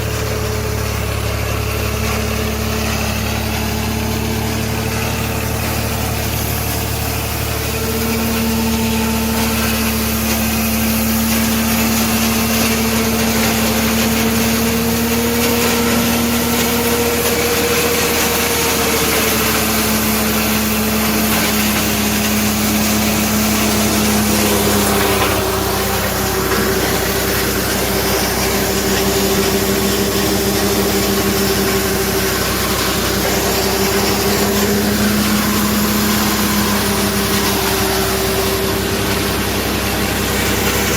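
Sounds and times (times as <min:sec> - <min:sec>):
wood chipper engine humming: 0:00.0 - 0:40.9.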